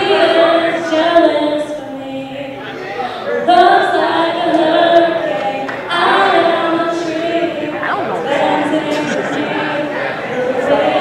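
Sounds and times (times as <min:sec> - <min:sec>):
group singing in large hall: 0:00.0 - 0:11.0.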